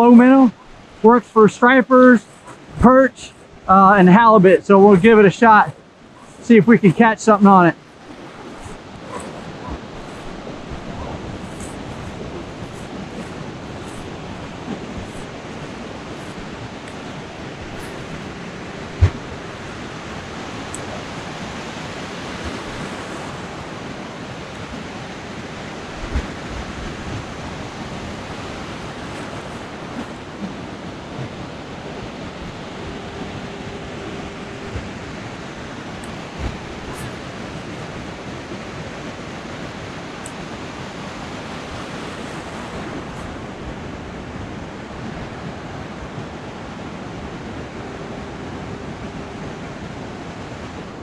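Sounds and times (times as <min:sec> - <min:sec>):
ocean surf washing in: 0:00.0 - 0:51.0.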